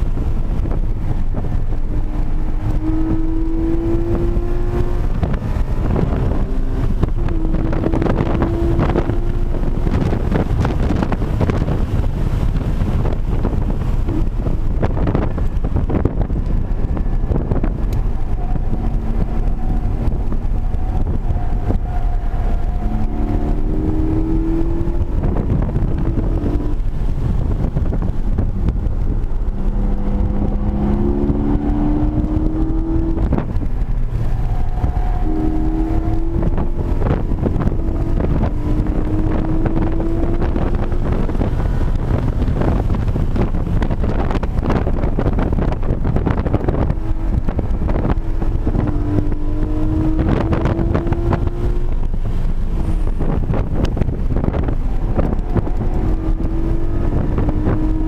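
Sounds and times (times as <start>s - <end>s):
car engine accelerating: 0.0s - 58.0s
wind buffeting microphone: 0.0s - 58.0s.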